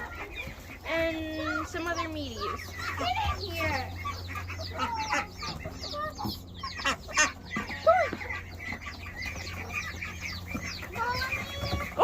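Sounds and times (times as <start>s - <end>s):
chickens clucking and squawking: 0.0s - 12.0s
steady low hum: 0.0s - 12.0s.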